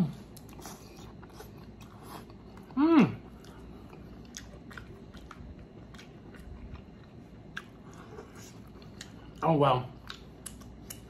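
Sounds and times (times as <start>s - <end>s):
chewing crispy food: 0.0s - 11.0s.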